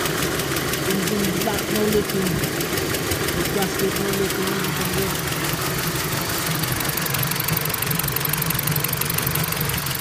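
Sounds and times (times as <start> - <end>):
car engine idling: 0.0 - 10.0
fast even engine ticking: 0.0 - 10.0.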